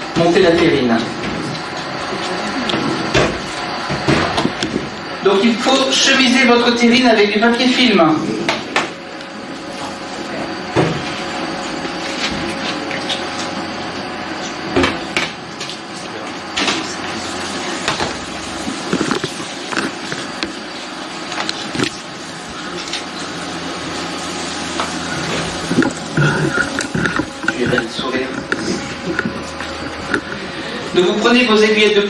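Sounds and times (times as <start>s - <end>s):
kitchen background hum: 0.0s - 32.0s.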